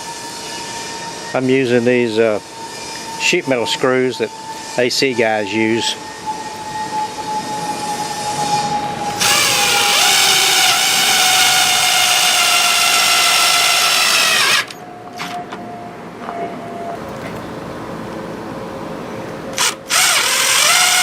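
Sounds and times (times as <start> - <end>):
power drill motor whine: 0.0 - 15.8, 19.5 - 21.0.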